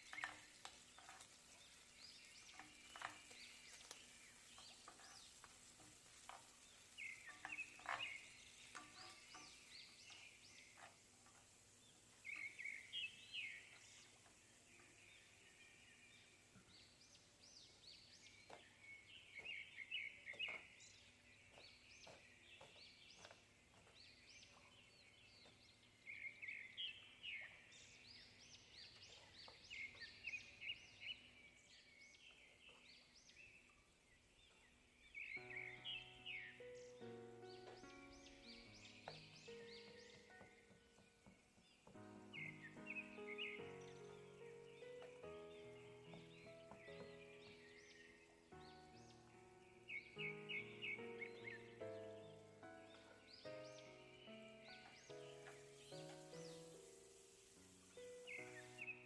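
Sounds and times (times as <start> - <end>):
faint birds chirping: 0.0 - 59.0.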